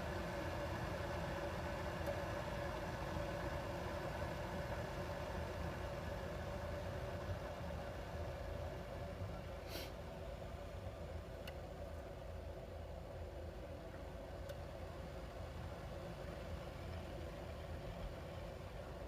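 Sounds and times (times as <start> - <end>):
faint hum: 0.0 - 19.0
kettle heating water: 0.0 - 19.0.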